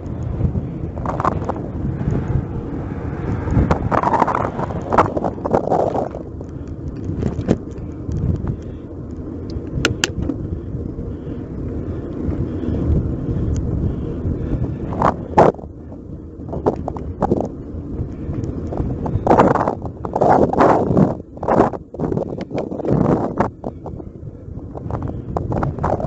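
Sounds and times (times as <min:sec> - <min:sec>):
bike rattles and clicks: 0:00.0 - 0:26.0
wind rushing over microphone: 0:00.0 - 0:26.0.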